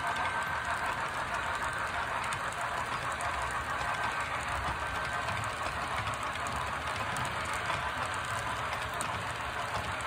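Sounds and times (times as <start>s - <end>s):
model train cars rolling on track: 0.0s - 10.0s
wheels clicking on rails: 0.0s - 10.0s.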